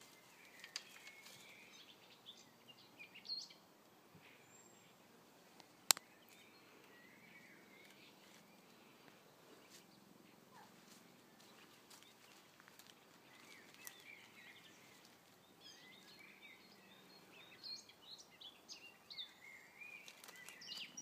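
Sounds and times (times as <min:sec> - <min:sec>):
faint songbird chirping: 0:00.0 - 0:21.0.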